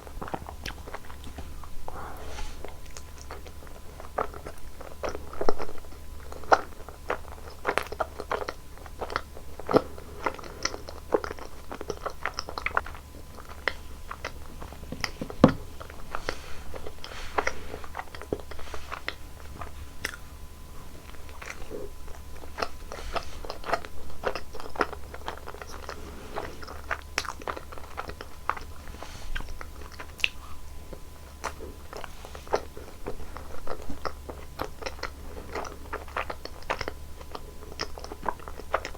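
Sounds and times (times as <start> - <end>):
biting and chewing: 0.0 - 38.9.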